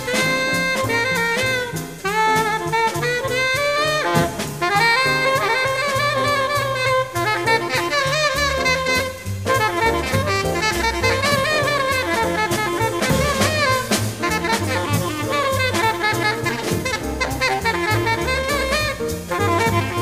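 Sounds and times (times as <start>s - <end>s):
drum kit with ride cymbal: 0.0s - 20.0s
tenor saxophone solo: 0.0s - 20.0s
walking double bass: 0.0s - 20.0s.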